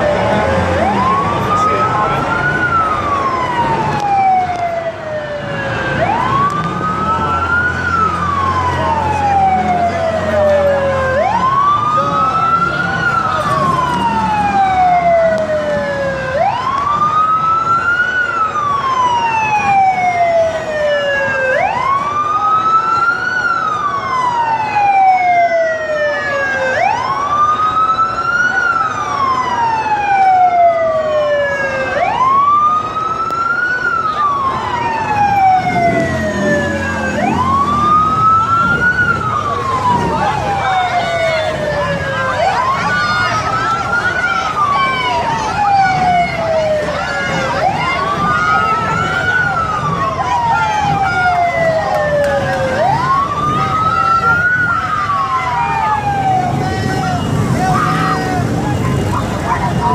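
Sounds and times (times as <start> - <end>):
police siren wailing: 0.0 - 59.9.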